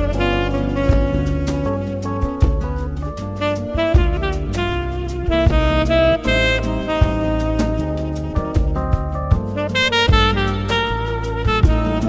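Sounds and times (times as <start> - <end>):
instrumental music with drum beat: 0.0 - 12.0.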